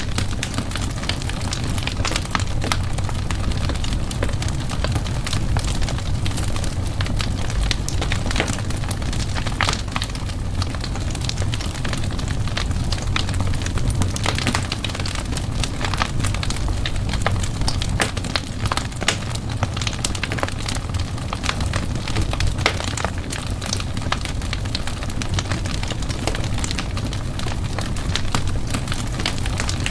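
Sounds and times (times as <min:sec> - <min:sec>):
fire crackles and pops: 0:00.0 - 0:29.9
fire flames rumbling: 0:00.0 - 0:29.9.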